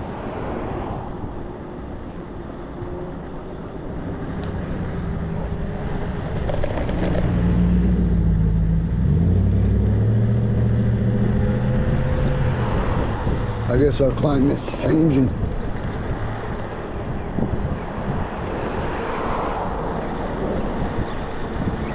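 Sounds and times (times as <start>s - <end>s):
road and wind noise: 0.0s - 21.9s
vehicle engine humming: 0.0s - 21.9s.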